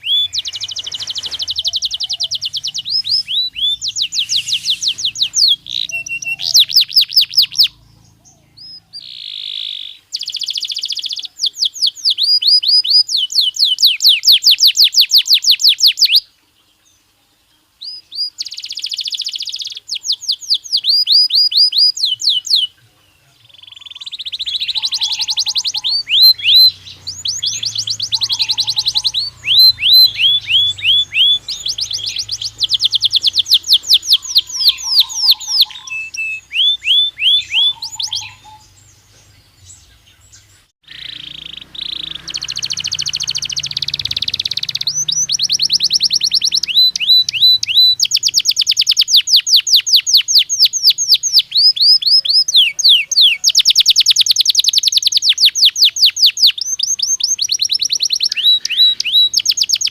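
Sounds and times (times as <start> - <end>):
canary singing fast trills: 0.0 - 59.9.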